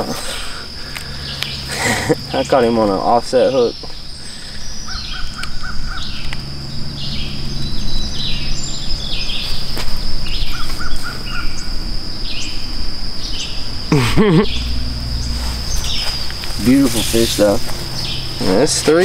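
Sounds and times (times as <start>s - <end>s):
birds chirping: 0.0s - 19.0s
high insect buzz: 0.0s - 19.0s.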